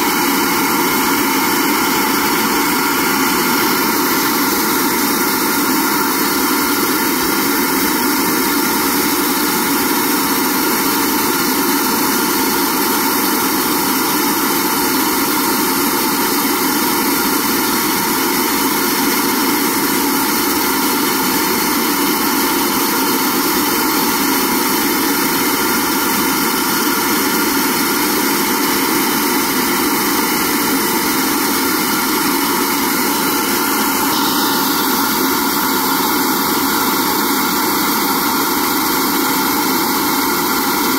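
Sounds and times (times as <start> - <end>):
steady motor hum: 0.0 - 40.9.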